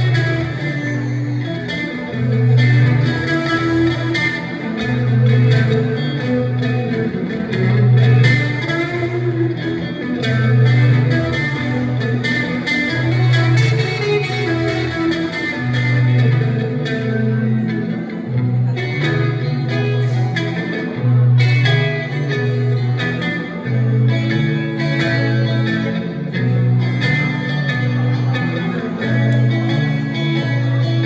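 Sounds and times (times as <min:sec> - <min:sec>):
blues guitar lead: 0:00.0 - 0:31.0
looped guitar rhythm part: 0:00.0 - 0:31.0.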